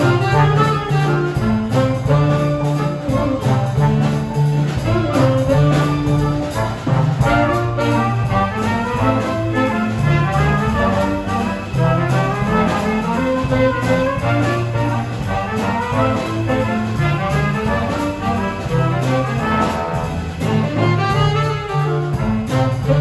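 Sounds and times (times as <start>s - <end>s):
brass instruments: 0.0s - 23.0s
moving bass line: 0.0s - 23.0s
small band playing a tune: 0.0s - 23.0s.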